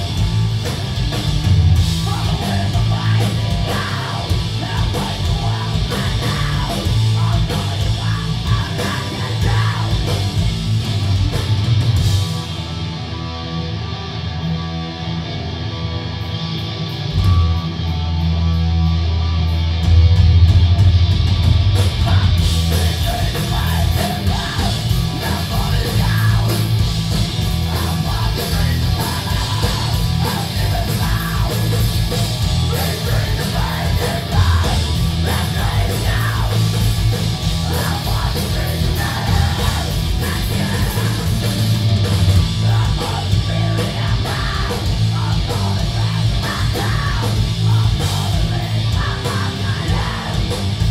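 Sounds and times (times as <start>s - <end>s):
bass guitar: 0.0s - 50.9s
distorted electric guitars: 0.0s - 50.9s
drums: 0.0s - 50.9s.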